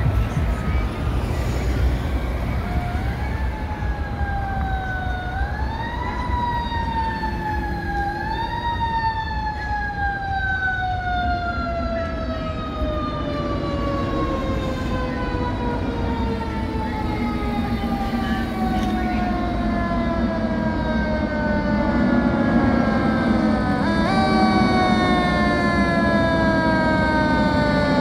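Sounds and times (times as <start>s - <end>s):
fire engine siren wailing: 0.0s - 28.0s
low rumble of street traffic: 0.0s - 28.0s.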